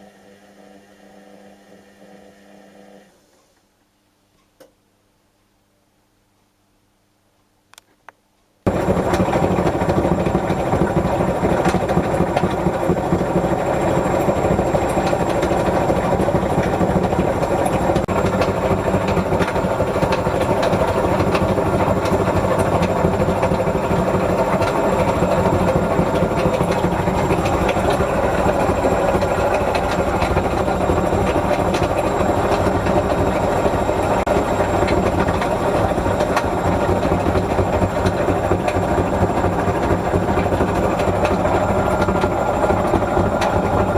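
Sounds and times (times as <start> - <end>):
washing machine rumbling: 8.7 - 43.9.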